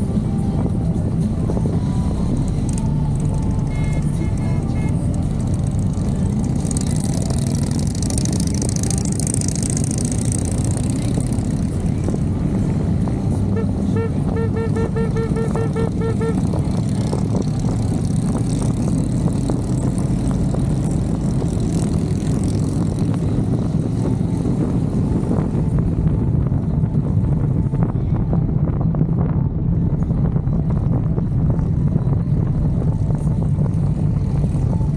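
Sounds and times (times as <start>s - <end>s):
motorcycle engines running: 0.0s - 34.9s.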